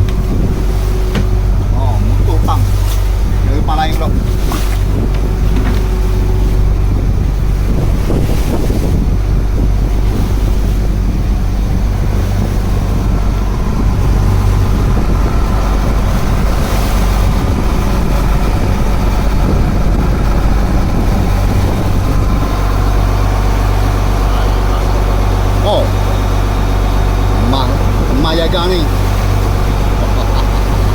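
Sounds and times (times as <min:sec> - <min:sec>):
boat engine running: 0:00.0 - 0:30.9
wind buffeting microphone: 0:00.0 - 0:30.9.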